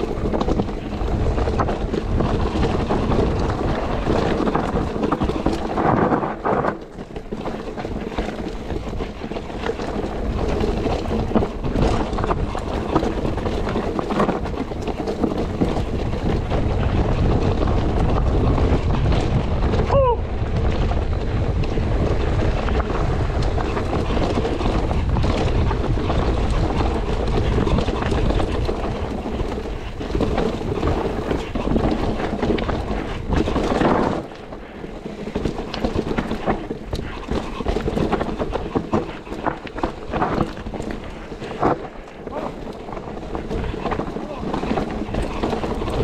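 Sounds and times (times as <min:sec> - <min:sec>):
bike rattling and knocking: 0:00.0 - 0:46.0
tyres rolling over dirt and rock: 0:00.0 - 0:46.0
wind rushing over microphone: 0:00.0 - 0:46.0.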